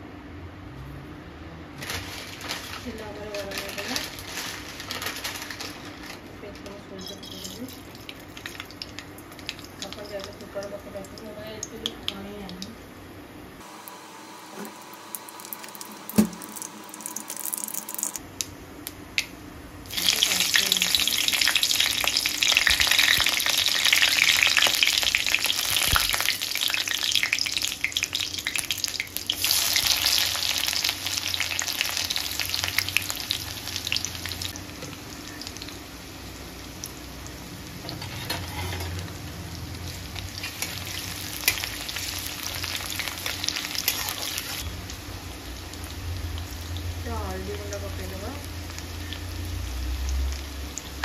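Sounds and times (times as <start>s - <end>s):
food sizzling in hot oil: 6.9s - 12.6s, 13.6s - 18.2s, 19.8s - 51.0s.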